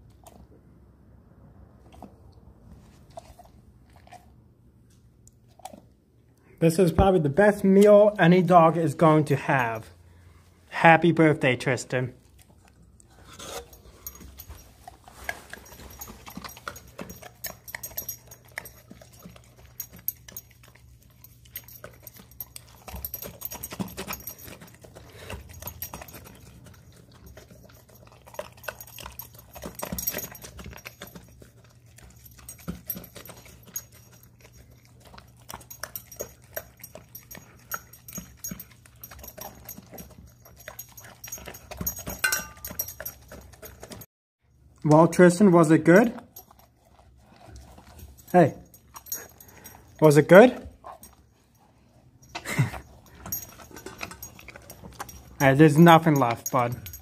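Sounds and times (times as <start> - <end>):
dog chewing and licking: 0.0 - 0.7, 1.8 - 6.3, 11.7 - 57.0.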